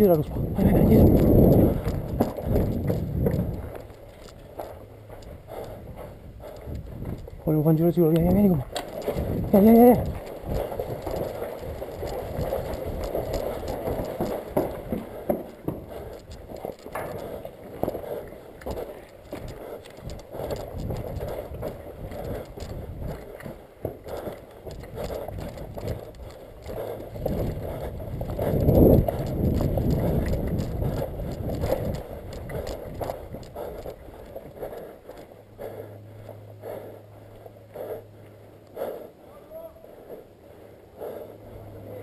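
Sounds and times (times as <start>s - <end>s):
wind noise on microphone: 0.0s - 34.9s
gear rattling: 0.0s - 35.3s
footsteps on rough ground: 0.0s - 38.0s.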